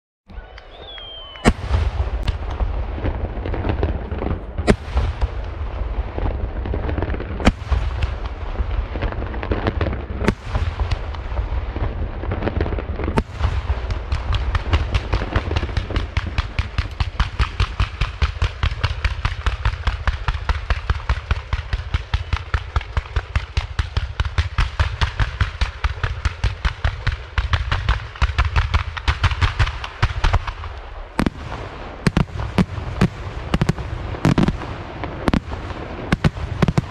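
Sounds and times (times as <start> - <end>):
fireworks bangs: 0.4 - 36.9.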